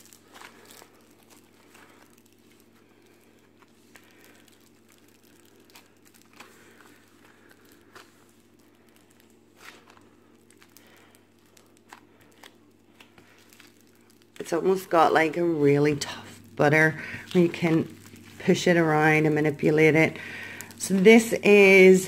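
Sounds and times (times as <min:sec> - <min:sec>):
foam clay crackling: 0:00.0 - 0:22.0
low steady hum: 0:00.0 - 0:22.0.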